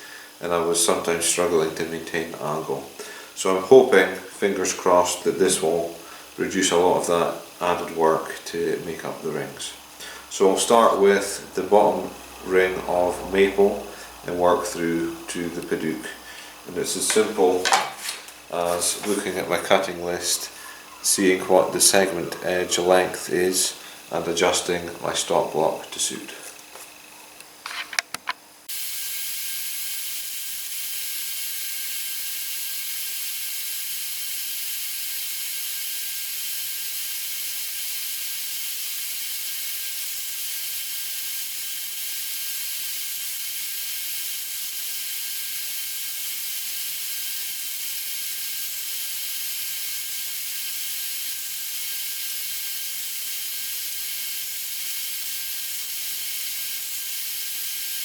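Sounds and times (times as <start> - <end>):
bandsaw running: 0.0 - 28.0, 28.6 - 58.0.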